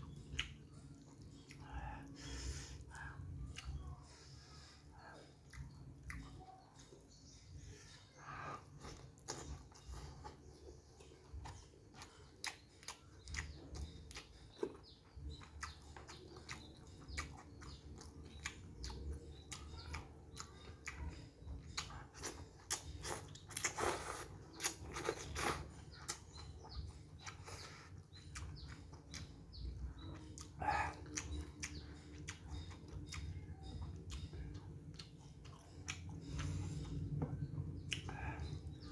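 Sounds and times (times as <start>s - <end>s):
person chewing rice: 0.0s - 6.6s, 8.0s - 38.9s.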